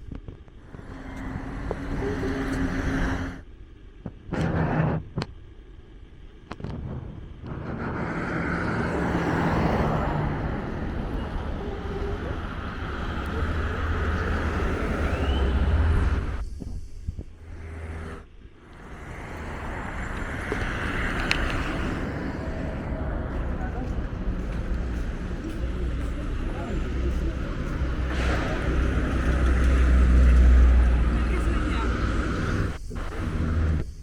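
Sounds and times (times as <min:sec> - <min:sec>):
traffic engines and vehicles passing: 0:00.0 - 0:04.7, 0:06.6 - 0:34.0
road noise: 0:00.0 - 0:34.0.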